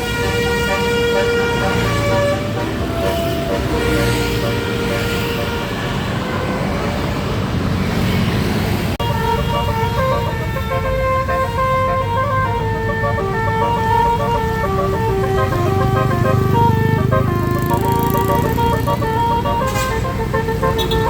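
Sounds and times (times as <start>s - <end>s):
multi-tone air horn tune: 0.0s - 6.5s, 9.0s - 21.0s
engine and road rumble: 0.0s - 21.0s.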